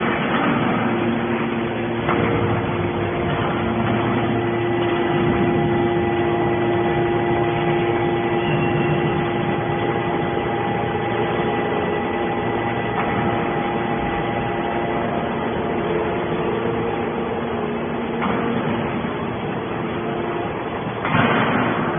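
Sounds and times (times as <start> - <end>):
mechanical hum: 0.0 - 21.9.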